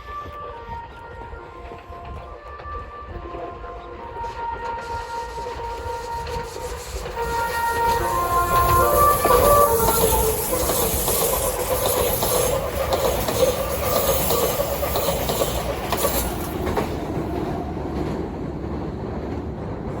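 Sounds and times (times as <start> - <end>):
train horn melody: 0.0 - 17.7
train wheels on rails: 0.0 - 20.0.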